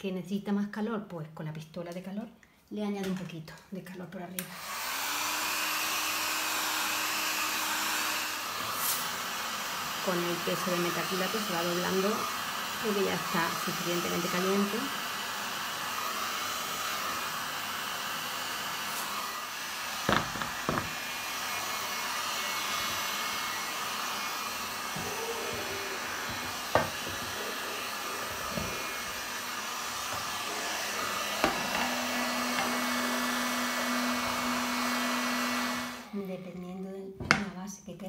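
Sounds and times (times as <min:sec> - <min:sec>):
heat gun blowing hot air: 0:04.4 - 0:36.2.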